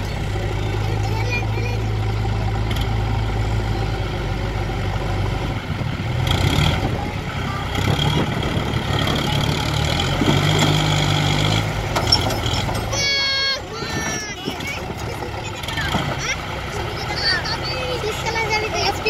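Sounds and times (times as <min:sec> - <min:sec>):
diesel engines under load: 0:00.0 - 0:19.0.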